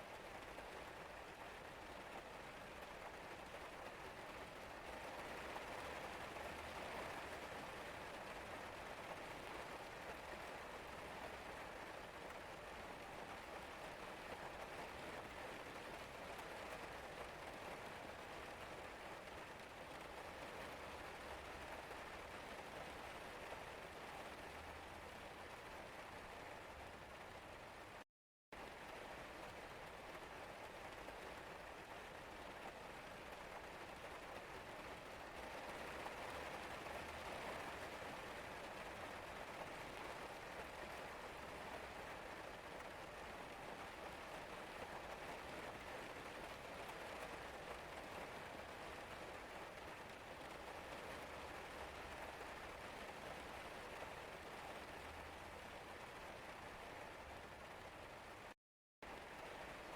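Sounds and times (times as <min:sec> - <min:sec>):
steady rain falling: 0:00.0 - 0:28.0, 0:28.6 - 0:59.9.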